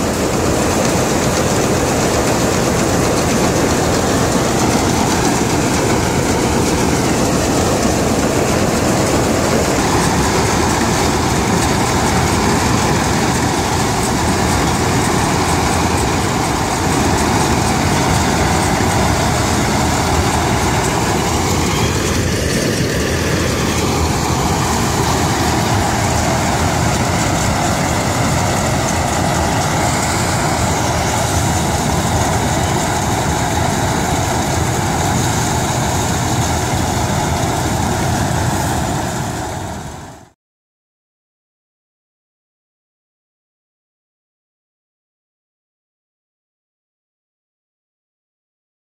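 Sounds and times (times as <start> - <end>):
combine harvester running: 0.0 - 40.3.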